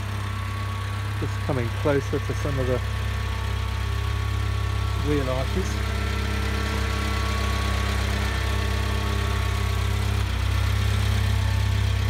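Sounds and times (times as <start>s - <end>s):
van engine idling: 0.0s - 12.0s.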